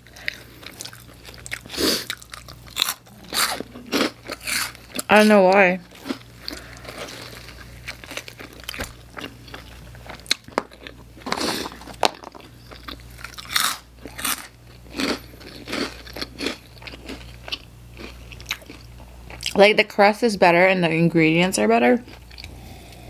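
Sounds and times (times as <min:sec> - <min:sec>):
person chewing crunchy snack: 0:00.0 - 0:19.6, 0:22.1 - 0:23.0.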